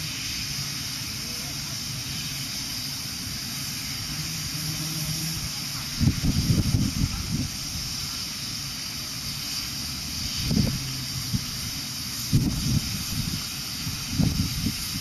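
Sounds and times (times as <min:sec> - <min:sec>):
steam hissing: 0:00.0 - 0:15.0.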